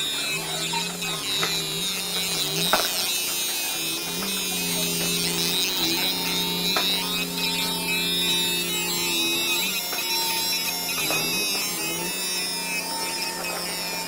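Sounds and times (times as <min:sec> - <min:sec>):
laser machine buzzing hum: 0:00.0 - 0:14.0.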